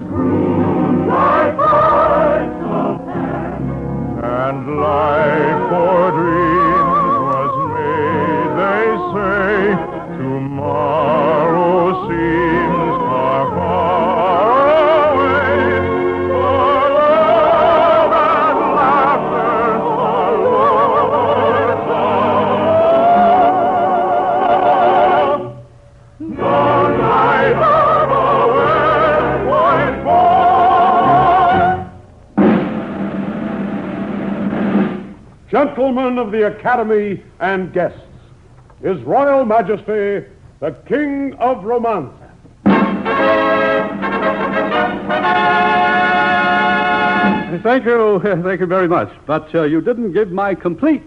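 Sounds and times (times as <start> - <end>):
orchestral operetta music: 0.0 - 36.4, 42.7 - 48.4.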